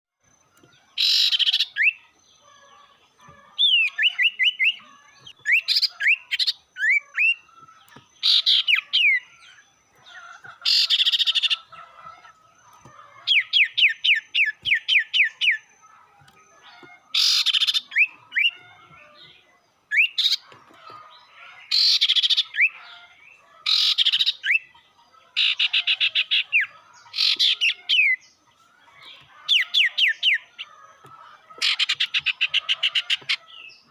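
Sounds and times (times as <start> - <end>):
songbird harsh rasping calls: 0.9 - 33.9.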